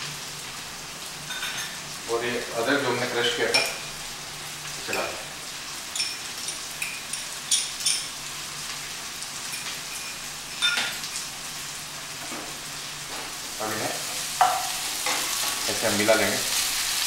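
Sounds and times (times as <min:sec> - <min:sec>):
vegetables sizzling in a wok: 0:00.0 - 0:17.0.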